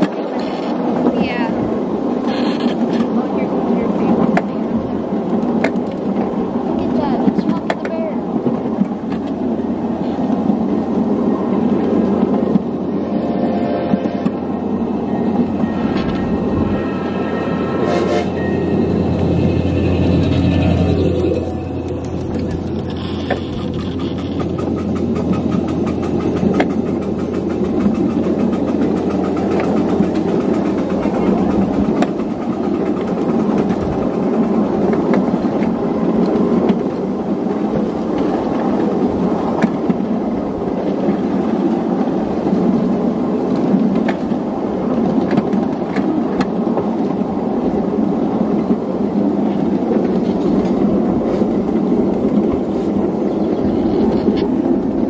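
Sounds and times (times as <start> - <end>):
miniature train cars rumbling: 0.0 - 55.0.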